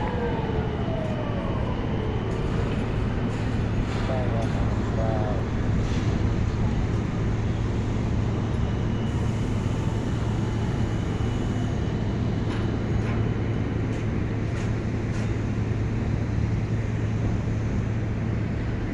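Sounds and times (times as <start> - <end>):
boat engine droning: 0.0 - 18.9.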